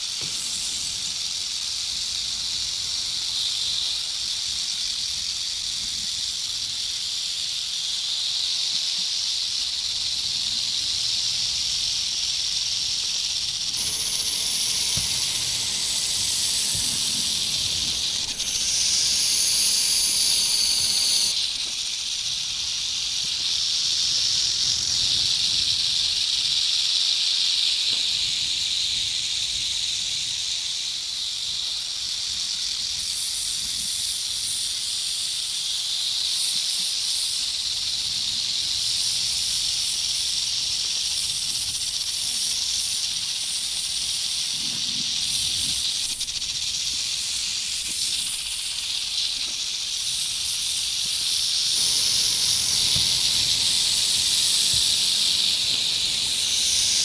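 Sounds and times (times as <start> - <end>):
sharp bright hiss: 0.0 - 57.0
snakes hissing: 0.0 - 57.0.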